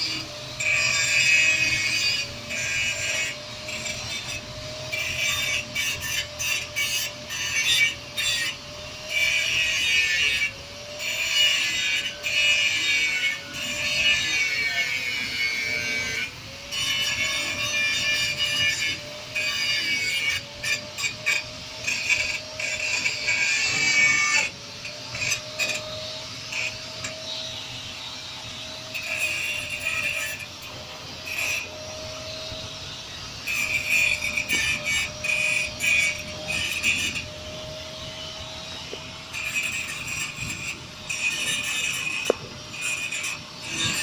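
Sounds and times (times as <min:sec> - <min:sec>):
gritty metal scraping: 0:00.0 - 0:44.0
loader machine whining: 0:00.0 - 0:44.0.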